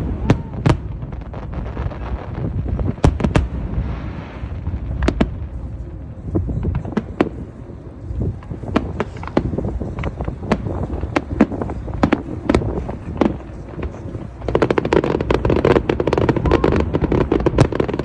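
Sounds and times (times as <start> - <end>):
low rumble: 0.0 - 17.7
fireworks bangs: 0.0 - 18.0.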